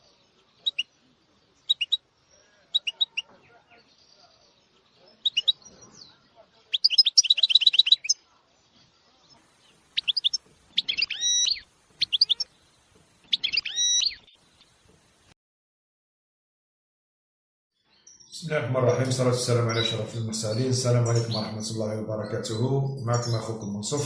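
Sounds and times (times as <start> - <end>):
songbird trilling and chirping: 0.1 - 8.2, 9.2 - 15.1, 17.8 - 24.0.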